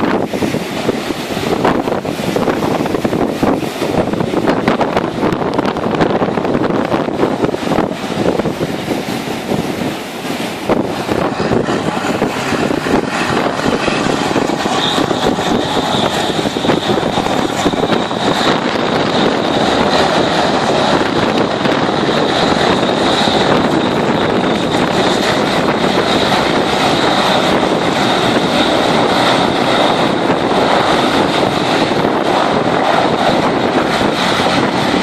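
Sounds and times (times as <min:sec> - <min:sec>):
high steady whine: 0:00.0 - 0:35.0
hovercraft engine and fan: 0:00.0 - 0:35.0.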